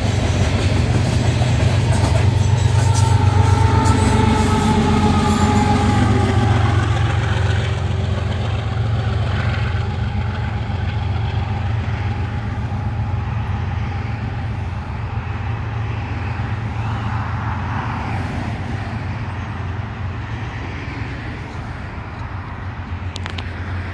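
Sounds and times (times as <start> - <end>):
diesel locomotives rumbling: 0.0 - 23.9.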